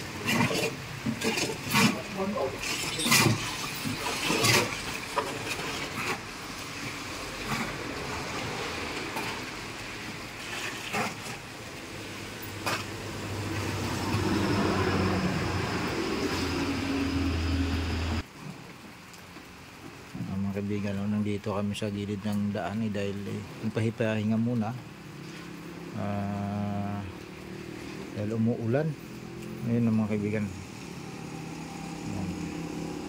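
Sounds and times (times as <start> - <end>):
steady outdoor noise: 0.0 - 33.0.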